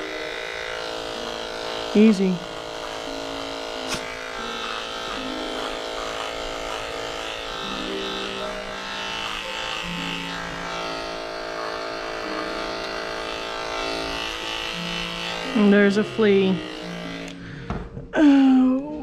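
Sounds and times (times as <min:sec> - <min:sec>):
electric hair clipper humming: 0:00.0 - 0:18.9.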